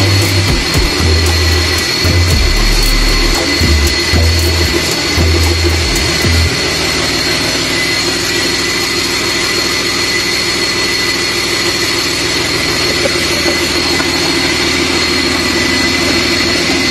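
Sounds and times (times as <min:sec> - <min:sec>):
diesel engine running: 0:00.0 - 0:16.9
high engine whine: 0:00.0 - 0:16.9.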